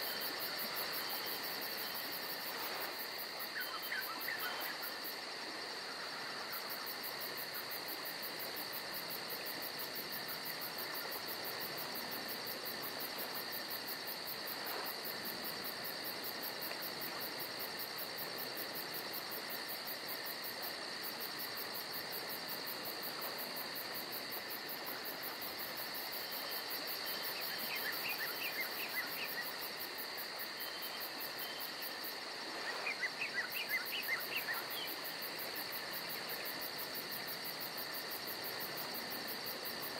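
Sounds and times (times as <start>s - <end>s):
insects with high pulsing trill: 0.0s - 39.9s.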